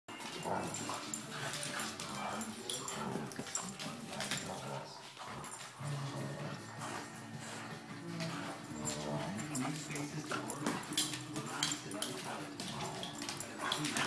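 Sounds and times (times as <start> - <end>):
dogs growling and grunting: 0.1 - 14.0.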